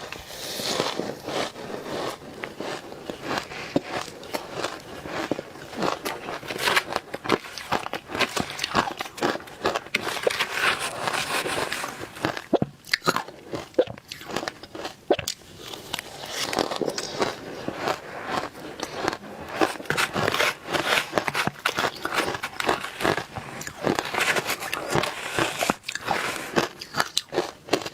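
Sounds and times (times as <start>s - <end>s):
crunching and chewing ice: 0.0s - 27.9s.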